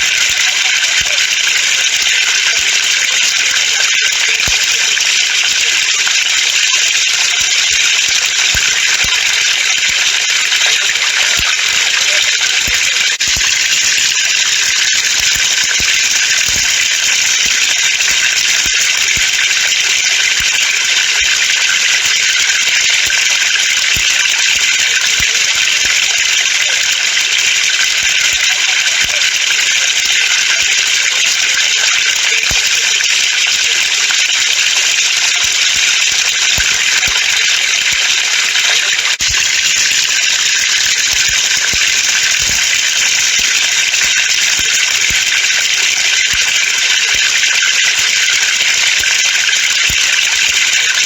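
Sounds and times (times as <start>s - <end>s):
water splashing from a pipe: 0.0s - 51.0s.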